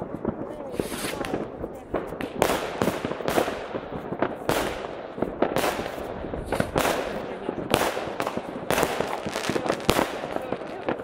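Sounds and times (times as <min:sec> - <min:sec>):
firecrackers crackling: 0:00.0 - 0:11.0
firework shells bursting: 0:00.2 - 0:11.0.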